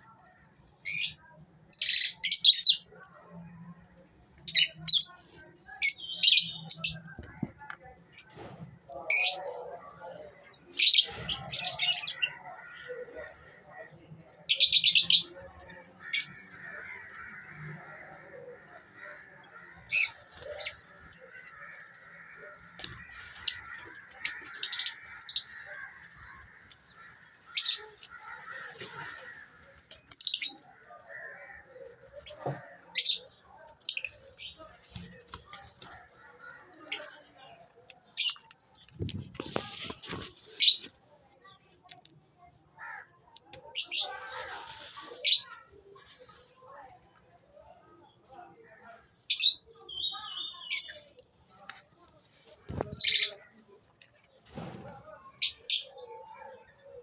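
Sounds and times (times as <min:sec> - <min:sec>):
background bird chatter: 0:00.0 - 0:57.0.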